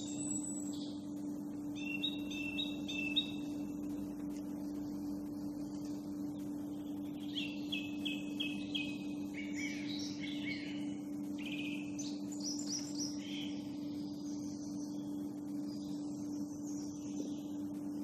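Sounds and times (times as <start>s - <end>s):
low hum: 0.0s - 18.0s
songbirds singing: 0.0s - 18.0s.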